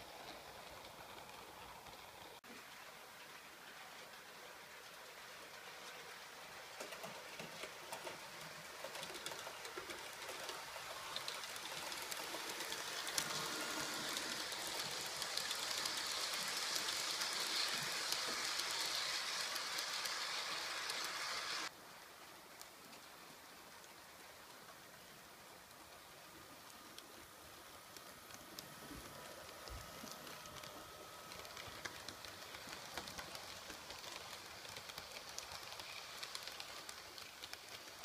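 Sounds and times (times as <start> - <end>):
model train running on track: 0.0 - 38.0.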